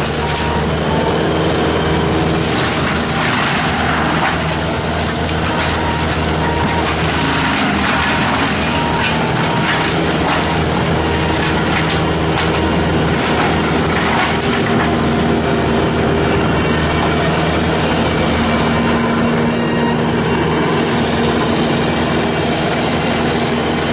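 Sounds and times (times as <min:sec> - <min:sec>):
diesel engine under load: 0:00.0 - 0:23.9
mulcher grinding brush: 0:00.0 - 0:23.9.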